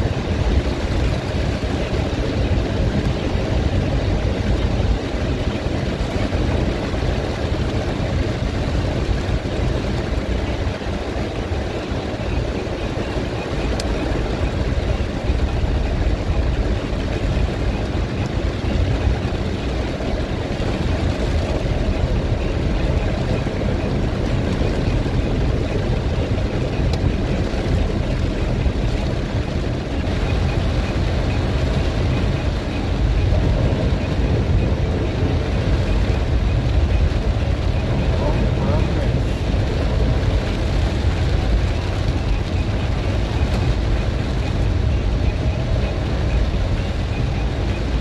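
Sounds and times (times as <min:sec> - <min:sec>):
engine and tyre rumble: 0:00.0 - 0:48.0
heavy rain on car roof: 0:00.0 - 0:48.0.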